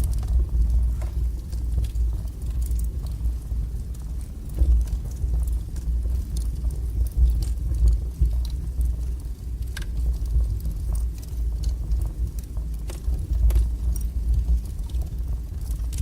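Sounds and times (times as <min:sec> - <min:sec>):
fire pops: 0:00.0 - 0:16.0
wood fire crackling: 0:00.0 - 0:16.0.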